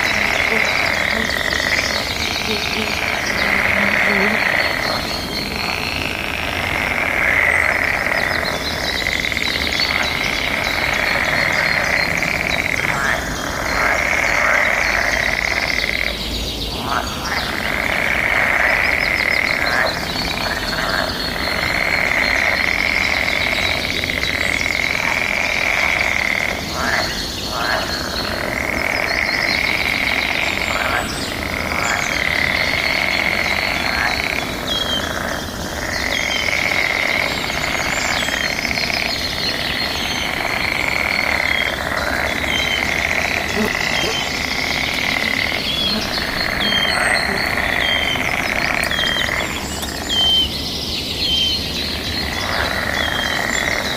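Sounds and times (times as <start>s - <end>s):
chorus of frogs trilling: 0.0s - 53.9s.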